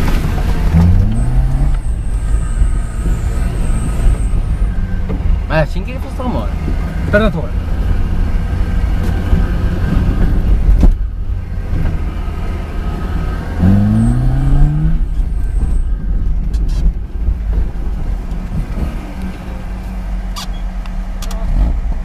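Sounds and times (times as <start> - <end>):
car engine revving in cabin: 0.0 - 22.0.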